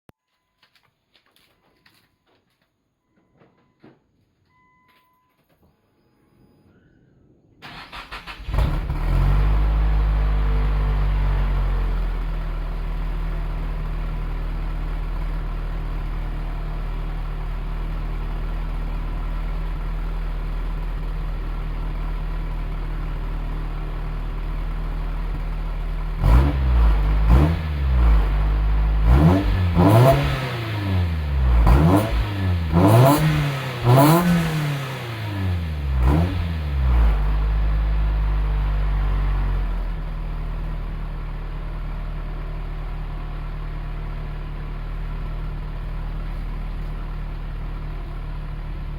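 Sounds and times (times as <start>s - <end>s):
car engine idling and revving: 7.7s - 48.9s.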